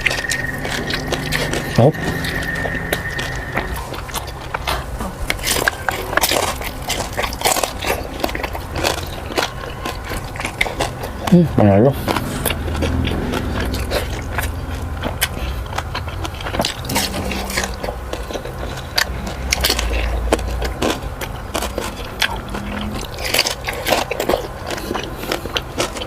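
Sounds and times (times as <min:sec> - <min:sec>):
low hum: 0:00.0 - 0:25.5
chewing crunchy food: 0:00.0 - 0:26.0.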